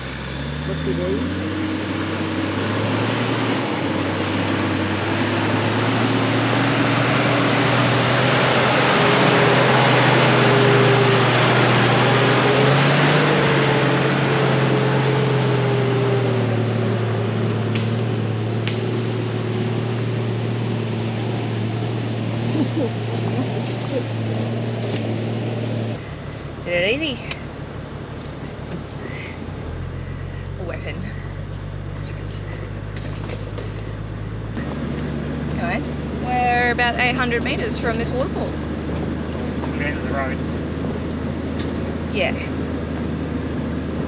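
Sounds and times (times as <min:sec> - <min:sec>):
truck engine under load: 0:00.0 - 0:44.0.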